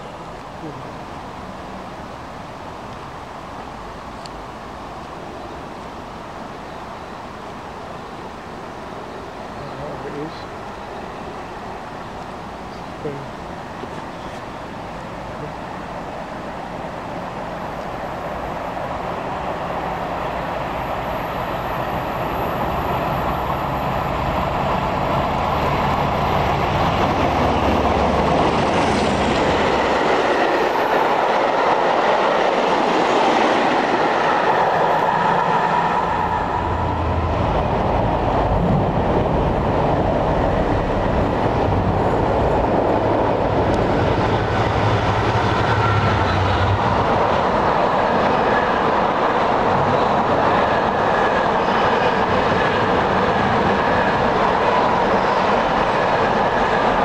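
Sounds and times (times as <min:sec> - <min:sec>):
freight train passing: 0:00.0 - 0:57.0.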